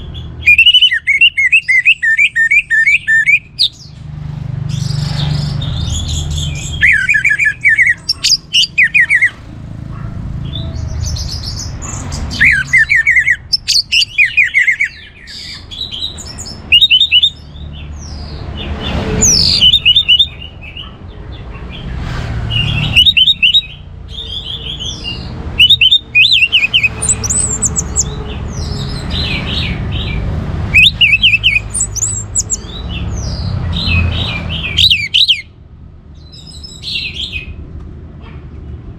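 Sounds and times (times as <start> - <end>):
thrush singing: 0.0 - 3.9, 4.5 - 35.5.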